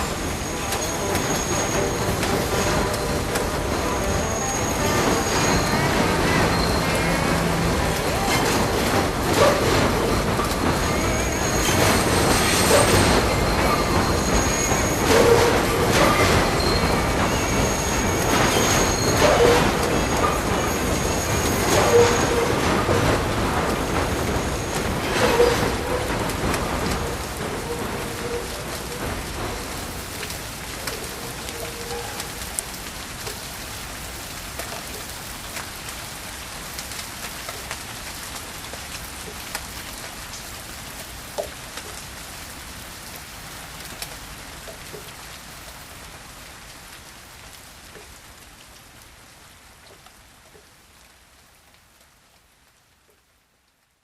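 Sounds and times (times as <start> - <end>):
steady rain falling: 0.0 - 54.0
raindrop ticks: 0.6 - 5.5, 7.3 - 45.8, 46.7 - 53.8.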